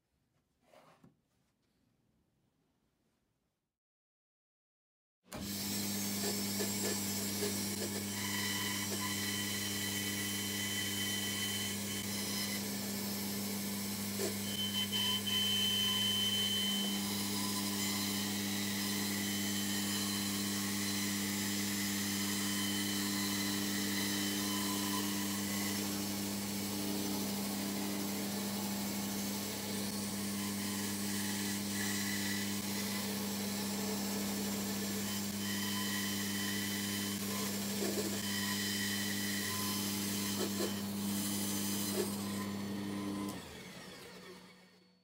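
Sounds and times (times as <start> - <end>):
power saw cutting wood: 5.3 - 44.9.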